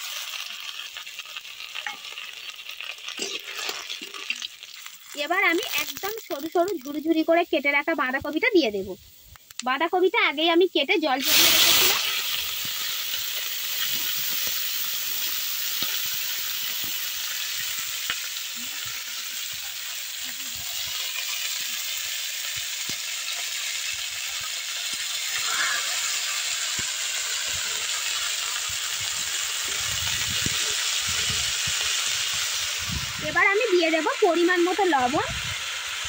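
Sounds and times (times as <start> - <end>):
cabbage frying in oil: 0.0 - 36.0.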